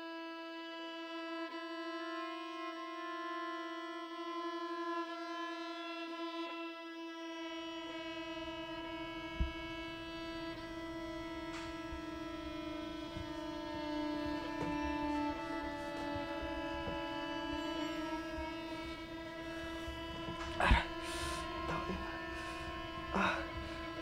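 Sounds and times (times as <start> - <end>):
droning string chord: 0.0 - 24.0.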